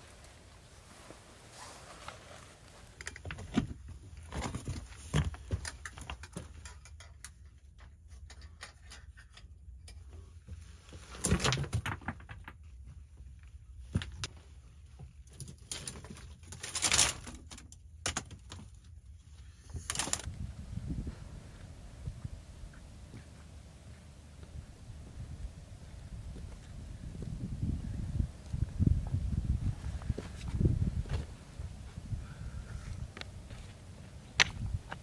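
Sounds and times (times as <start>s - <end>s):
rustles: 0.0s - 35.0s.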